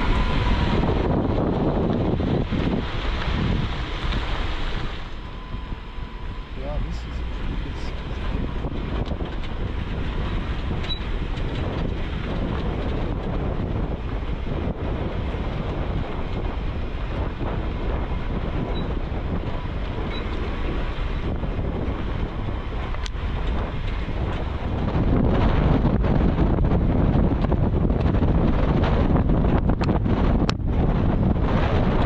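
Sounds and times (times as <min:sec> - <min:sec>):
car engine and road noise: 0:00.0 - 0:32.0
wind buffeting microphone: 0:00.0 - 0:32.0.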